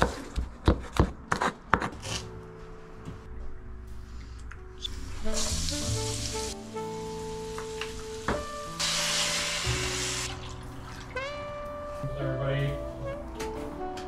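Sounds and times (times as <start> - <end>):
background music: 1.2 - 14.0.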